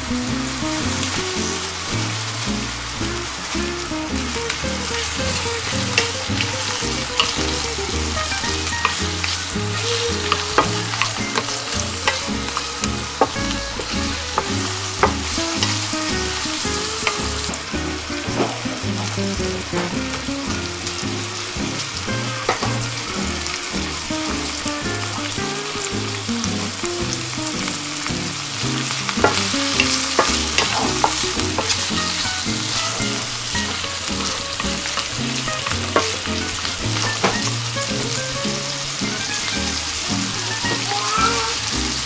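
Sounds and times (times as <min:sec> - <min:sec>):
food sizzling in hot oil: 0:00.0 - 0:42.0.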